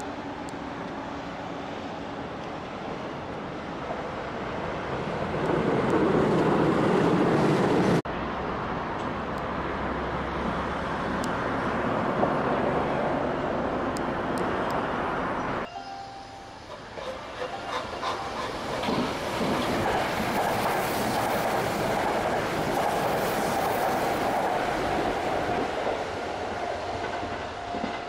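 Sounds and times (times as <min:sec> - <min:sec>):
rumble of passing vehicles: 0:00.0 - 0:27.8
approaching train rumble: 0:00.0 - 0:28.0.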